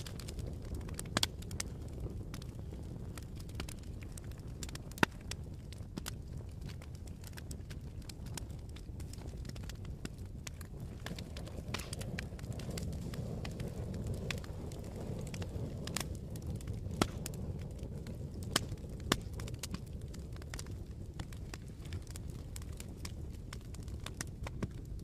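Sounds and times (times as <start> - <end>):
log fire crackling: 0.0 - 25.0
low rumble of flames: 0.0 - 25.0
sharp pops of fire: 0.0 - 25.0.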